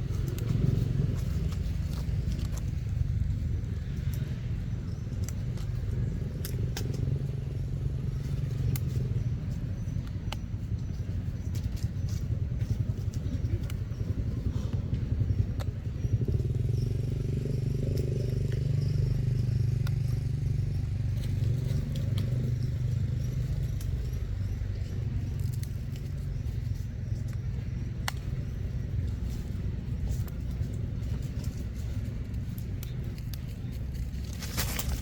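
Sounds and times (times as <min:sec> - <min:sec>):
faint clicks and ticks: 0:00.0 - 0:35.0
steady low rumble: 0:00.0 - 0:35.0.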